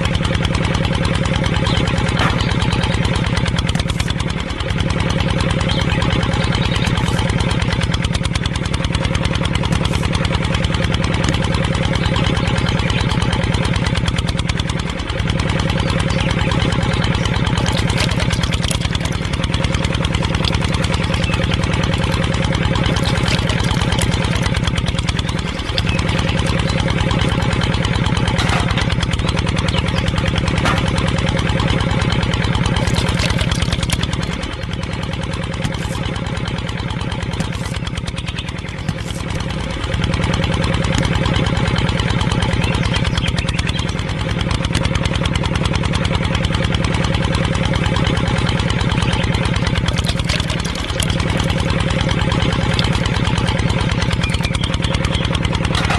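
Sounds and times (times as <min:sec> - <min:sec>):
small motor running: 0:00.0 - 0:55.9.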